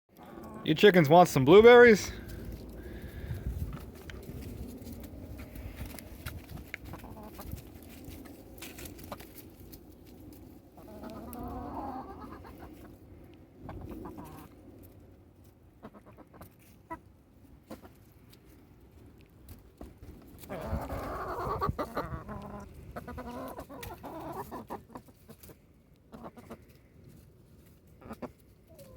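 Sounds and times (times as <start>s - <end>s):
chickens clucking: 0.2s - 28.9s.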